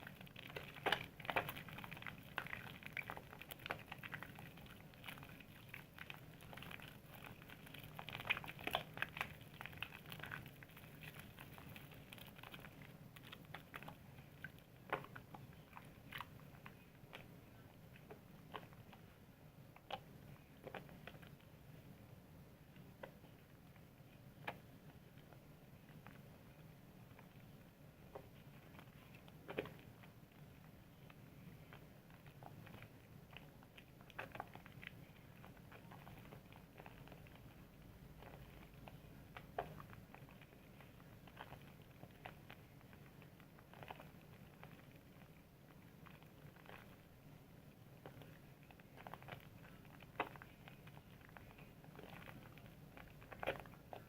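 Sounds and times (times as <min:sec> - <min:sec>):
soap lather wet crackles: 0:00.0 - 0:21.8, 0:22.8 - 0:54.0.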